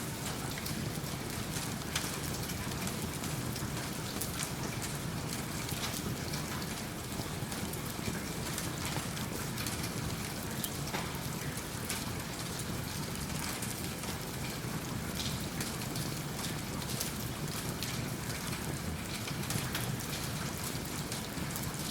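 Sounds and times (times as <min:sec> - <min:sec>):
steady rain: 0:00.0 - 0:21.9.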